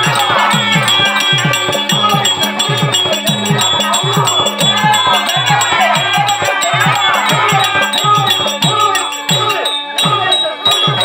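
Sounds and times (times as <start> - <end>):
barrel drum fast rhythm: 0.0 - 11.0
hand cymbals jingling: 0.0 - 11.0.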